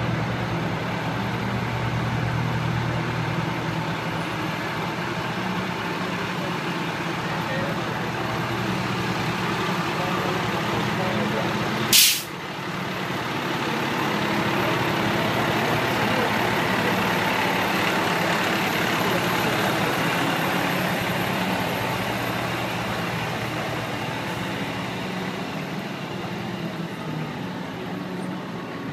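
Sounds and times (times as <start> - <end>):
fire engine diesel engine: 0.0 - 28.9.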